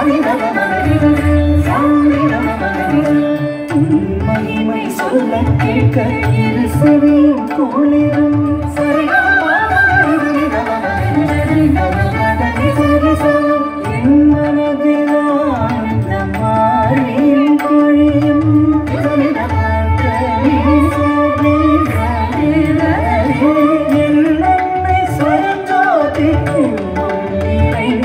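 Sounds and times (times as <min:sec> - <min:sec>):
hand drum percussion: 0:00.0 - 0:28.0.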